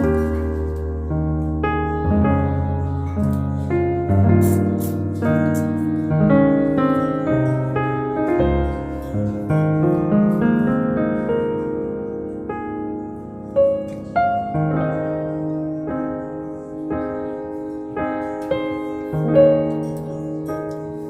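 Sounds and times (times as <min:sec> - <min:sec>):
piano piece: 0:00.0 - 0:21.0.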